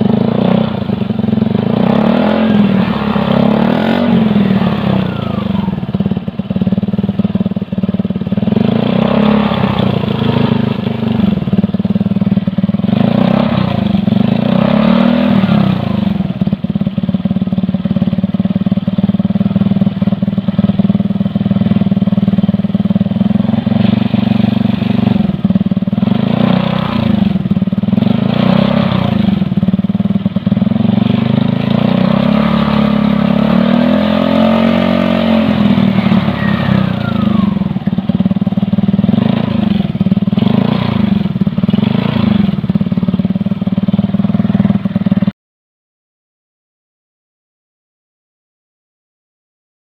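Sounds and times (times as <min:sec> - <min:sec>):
motorcycle engine idling and revving: 0:00.0 - 0:45.4.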